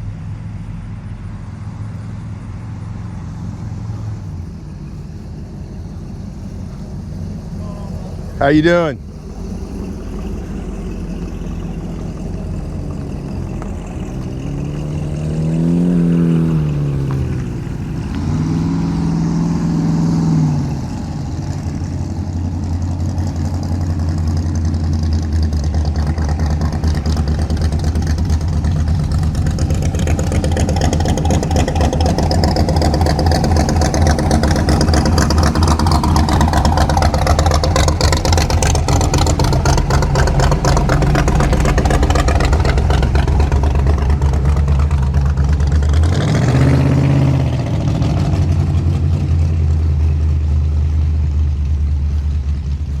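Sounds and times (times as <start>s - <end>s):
car engine revving: 0.0s - 53.0s
cars driving slowly past: 0.0s - 53.0s
steady low engine sound: 0.0s - 53.0s.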